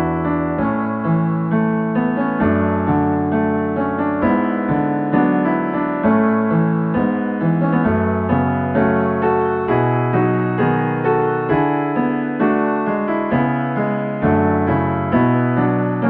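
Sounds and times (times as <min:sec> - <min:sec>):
electric piano chords: 0:00.0 - 0:16.0.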